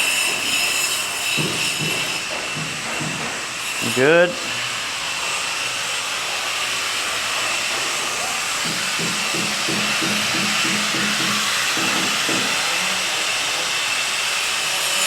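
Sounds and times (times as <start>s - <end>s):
power sander on stone: 0.0s - 15.0s.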